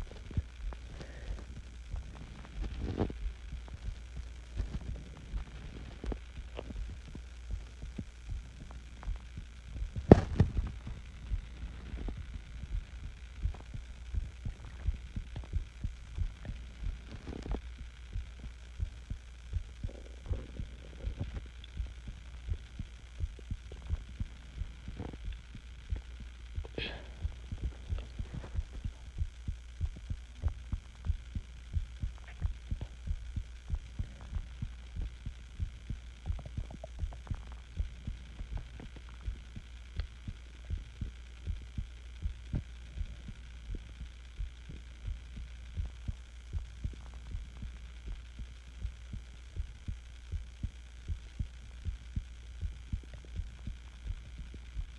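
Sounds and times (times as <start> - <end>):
heartbeat thumps: 0.0 - 54.9
steady low hum: 0.0 - 54.9.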